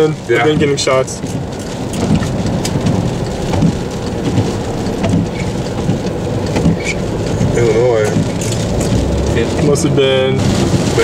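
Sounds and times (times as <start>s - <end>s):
low rumble of moving car: 0.0s - 11.0s
rain pattering on car roof: 0.0s - 11.0s.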